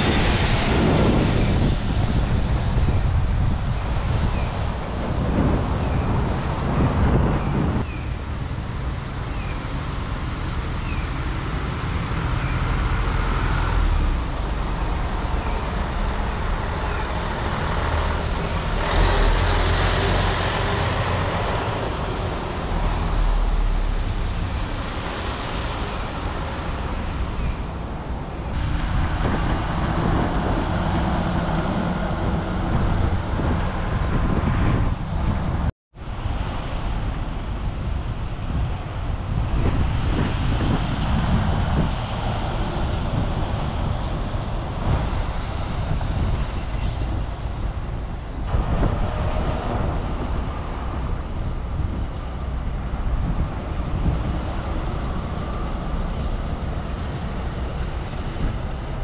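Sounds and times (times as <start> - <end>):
buses driving: 0.0 - 59.0
traffic noise: 0.0 - 59.0.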